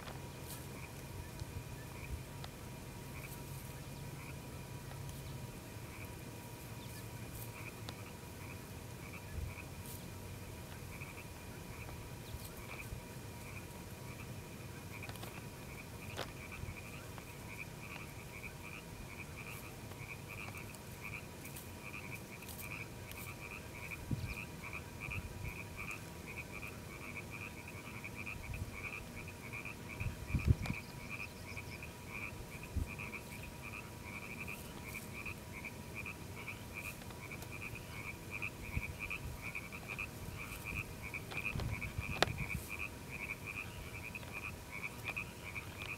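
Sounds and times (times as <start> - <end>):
frogs croaking: 0.0 - 45.9.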